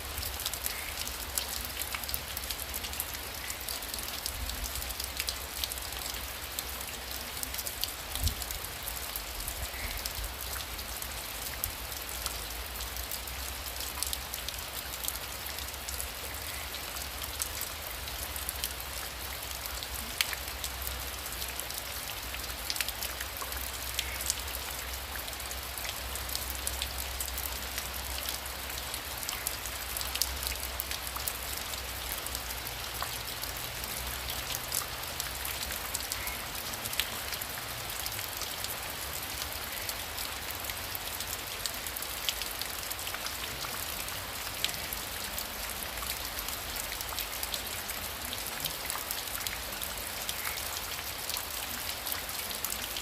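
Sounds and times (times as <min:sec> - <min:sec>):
heavy rain falling: 0:00.0 - 0:53.0
raindrops ticking on a surface: 0:00.0 - 0:53.0.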